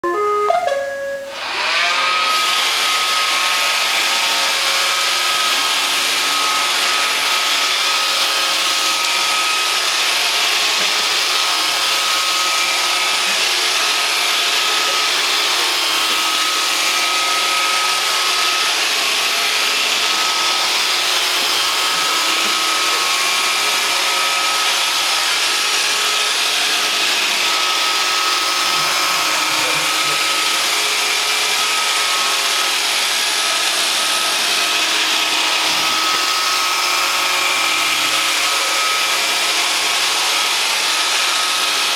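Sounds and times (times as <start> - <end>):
robotic vacuum cleaner whirring: 1.3 - 41.9.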